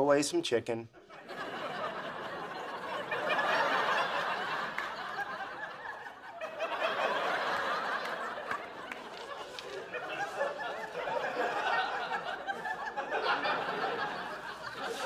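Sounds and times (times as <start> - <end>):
studio audience laughing: 1.0 - 15.0.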